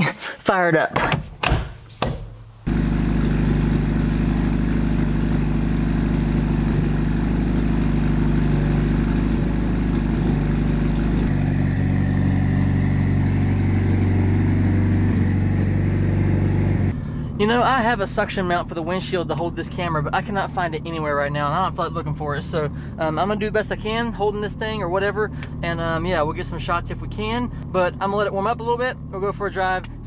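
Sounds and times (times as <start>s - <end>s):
car engine starting and idling: 2.2s - 30.0s.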